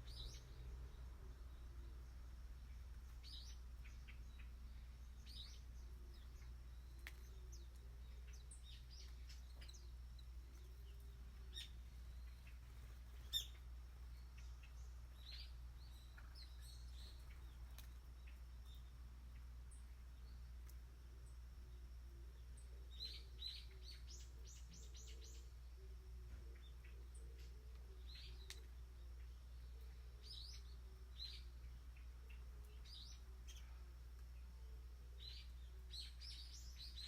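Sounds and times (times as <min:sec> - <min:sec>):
low steady hum: 0:00.0 - 0:37.0
small birds chirping: 0:00.0 - 0:37.0.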